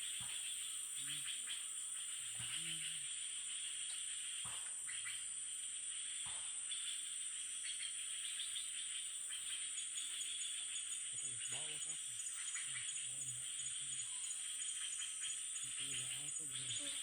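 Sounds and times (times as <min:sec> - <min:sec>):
forest insects chorus: 0:00.0 - 0:17.0.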